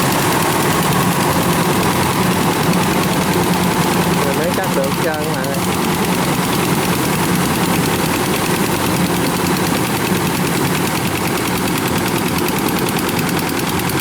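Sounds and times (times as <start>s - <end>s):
combine harvester engine running: 0.0s - 14.0s
fast even clatter: 0.0s - 14.0s.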